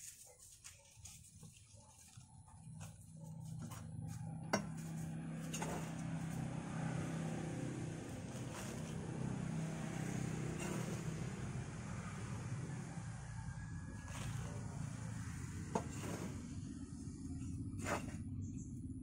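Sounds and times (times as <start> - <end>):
engine humming: 1.2 - 19.0.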